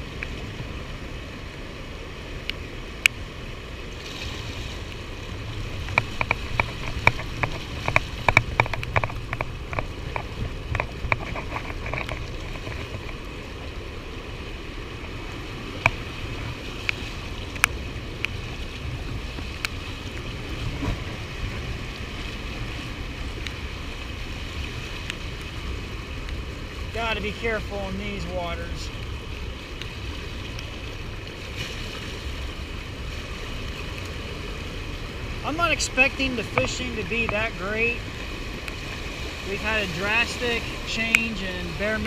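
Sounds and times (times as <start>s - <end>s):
river water rushing: 0.0s - 42.0s
wind: 0.0s - 42.0s.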